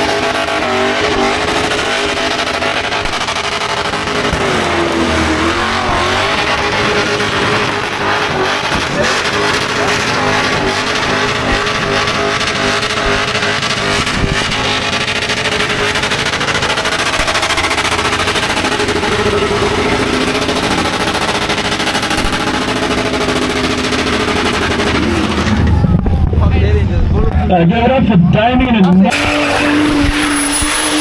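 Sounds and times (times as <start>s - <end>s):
spinning tyres hissing: 0.0s - 25.9s, 29.1s - 31.0s
car engine at high revs: 0.0s - 27.6s, 28.6s - 31.0s
engine crackling: 0.0s - 31.0s.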